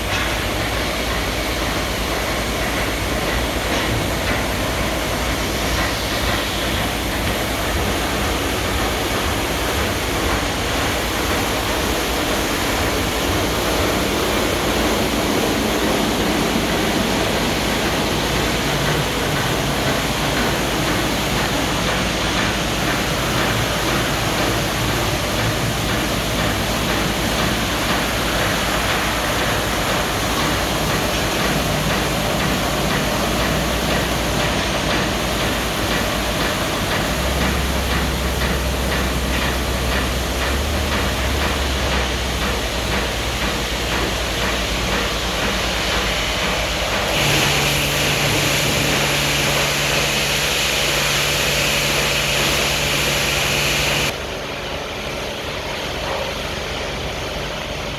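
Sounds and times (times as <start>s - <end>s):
car wash machinery running: 0.0s - 57.9s.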